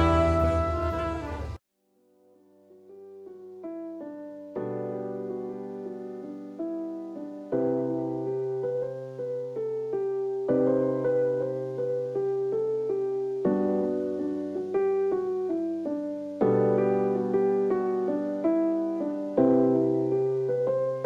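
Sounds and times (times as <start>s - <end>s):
soft piano music: 0.0s - 1.6s, 2.2s - 21.0s.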